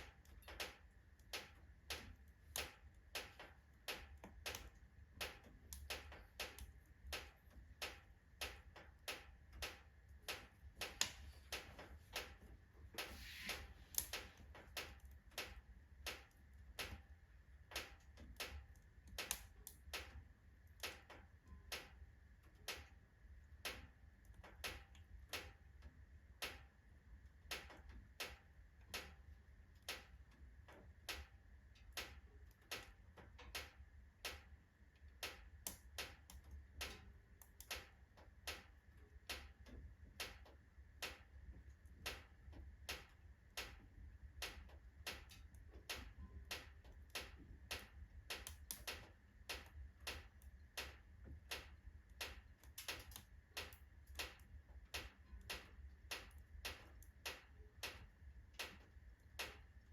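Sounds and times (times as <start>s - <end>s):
logs crackling in fireplace: 0.0s - 59.9s.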